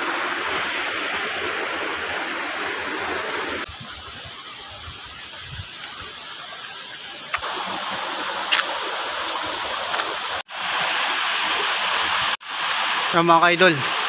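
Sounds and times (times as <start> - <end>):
waterfall and river rushing: 0.0 - 14.0.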